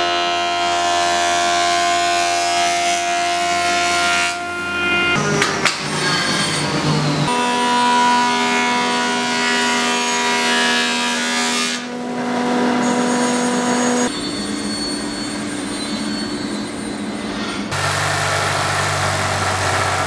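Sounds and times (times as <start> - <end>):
thickness planer whining: 0.0 - 14.1, 17.4 - 20.0.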